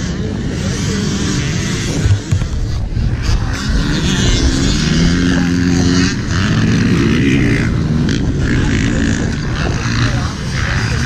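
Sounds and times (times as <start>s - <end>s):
dirt bike engines idling: 0.0s - 11.0s.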